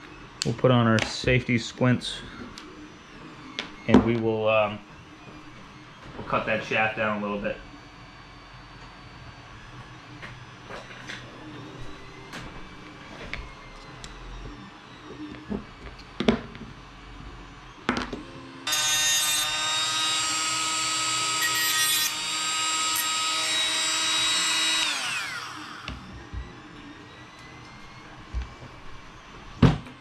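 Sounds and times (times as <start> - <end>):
rotary tool whining and grinding: 0.0 - 30.0.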